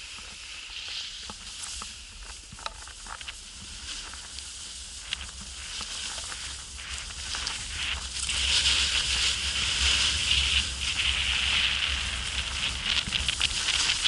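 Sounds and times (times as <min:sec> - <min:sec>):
snowboard scraping hard snow: 0:00.0 - 0:14.0
wind rumble on microphone: 0:00.0 - 0:14.0.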